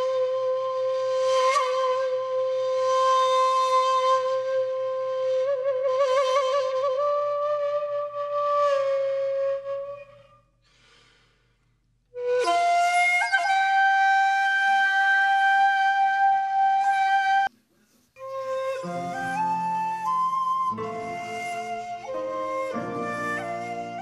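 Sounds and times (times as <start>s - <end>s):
flute music in long held notes: 0.0s - 10.5s, 12.1s - 17.5s, 18.2s - 24.0s.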